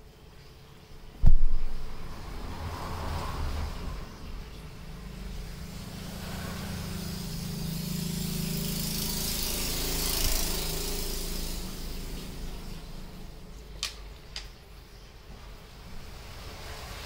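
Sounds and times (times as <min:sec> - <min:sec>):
low motor hum with hiss: 0:00.0 - 0:17.0.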